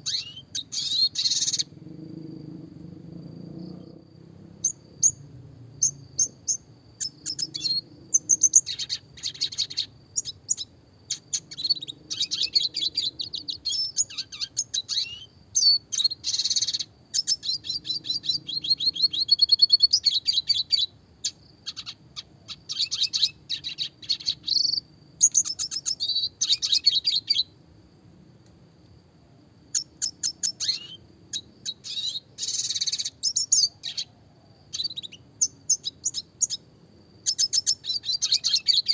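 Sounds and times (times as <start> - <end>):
bird twittering trills: 0.0 - 2.3, 3.6 - 27.5, 29.7 - 34.1, 34.7 - 36.6, 37.2 - 38.9.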